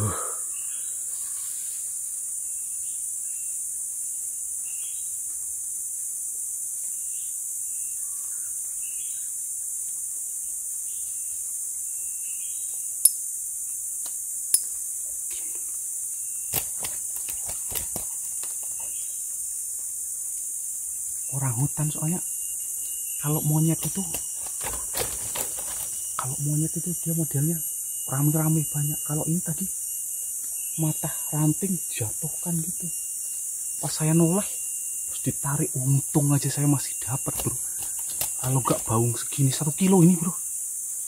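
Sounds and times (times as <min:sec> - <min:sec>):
insects droning: 0:00.0 - 0:41.0
short insect chirps: 0:00.0 - 0:41.0.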